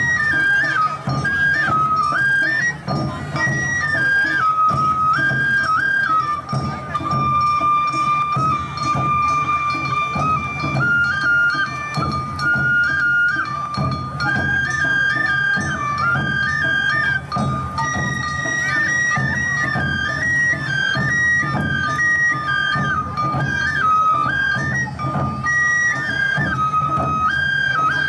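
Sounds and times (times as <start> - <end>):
steady drum beat: 0.0 - 27.4
bamboo flutes playing melody: 0.0 - 28.0.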